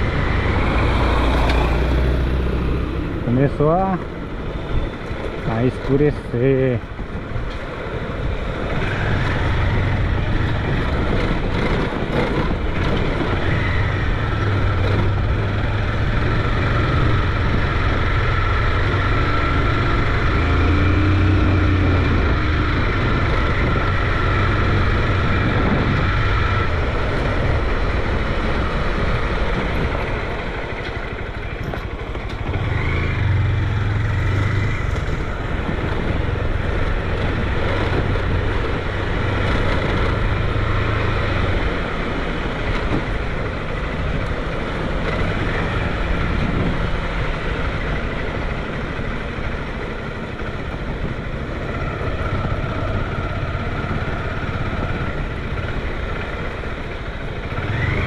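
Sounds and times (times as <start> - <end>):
wind noise on microphone: 6.7 - 58.0
motorcycle engine running: 8.3 - 58.0.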